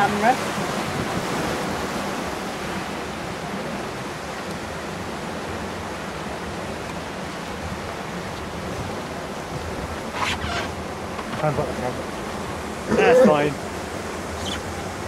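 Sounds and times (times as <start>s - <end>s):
rushing whitewater: 0.0s - 15.0s.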